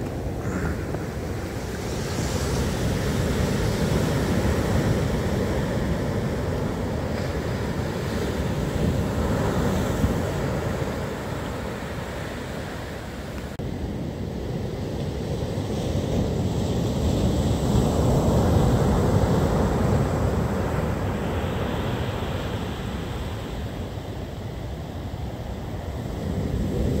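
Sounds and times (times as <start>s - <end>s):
heavy waves breaking on beach: 0.0s - 27.0s
wind rumbling on microphone: 0.0s - 27.0s.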